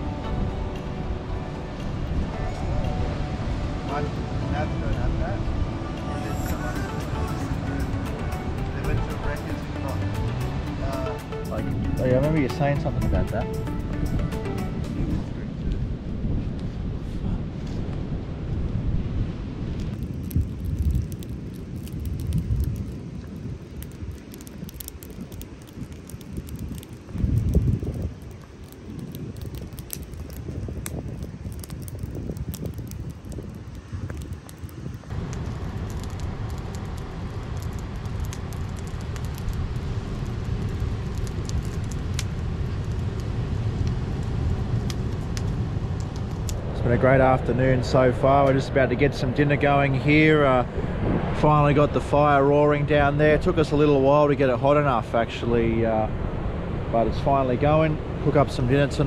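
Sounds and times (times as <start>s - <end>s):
kindling fire crackling: 0.0s - 59.0s
wind buffeting microphone: 0.0s - 59.0s.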